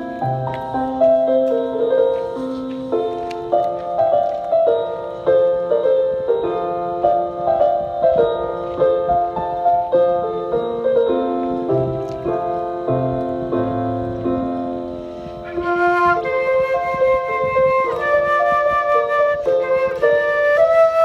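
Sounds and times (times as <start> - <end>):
gentle piano playing: 0.0 - 21.0.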